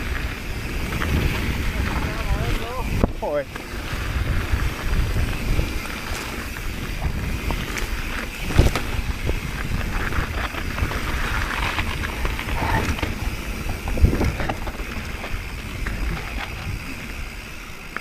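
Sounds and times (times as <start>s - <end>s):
bike clattering: 0.0s - 18.0s
tyre and wind noise: 0.0s - 18.0s.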